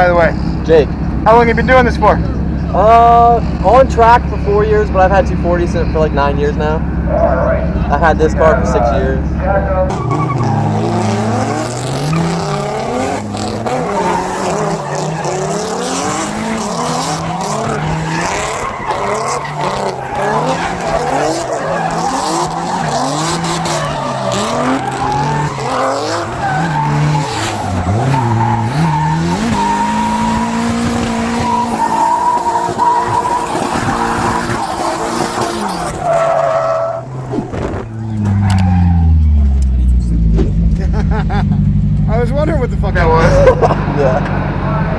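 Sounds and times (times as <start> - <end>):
car engine revving: 0.0 - 44.9
tyres skidding and squealing: 0.0 - 44.9.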